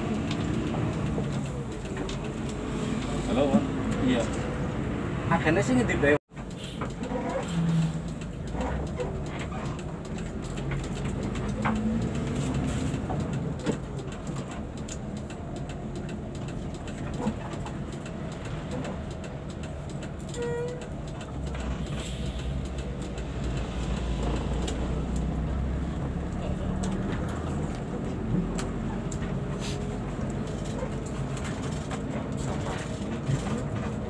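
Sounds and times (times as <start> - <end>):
bus engine and road drone: 0.0 - 34.0.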